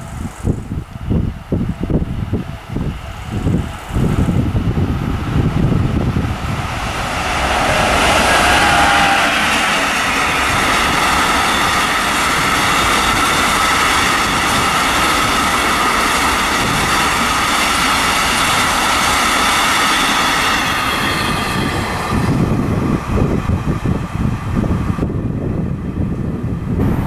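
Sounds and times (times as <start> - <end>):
diesel locomotive rumble: 0.0 - 27.0
rushing rail noise: 0.0 - 27.0.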